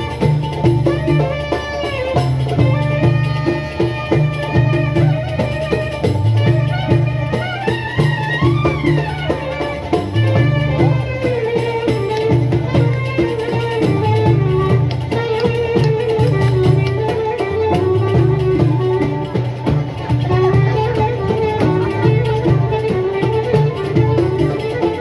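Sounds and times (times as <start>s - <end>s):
clarinet melody bending in pitch: 0.0s - 25.0s
drum strokes: 0.0s - 25.0s.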